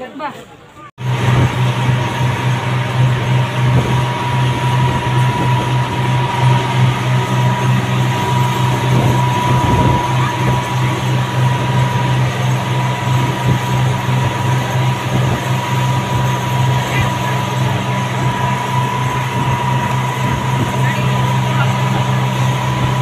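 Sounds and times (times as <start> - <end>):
outboard motors droning: 0.9 - 23.0
rushing wake and wind: 1.0 - 23.0.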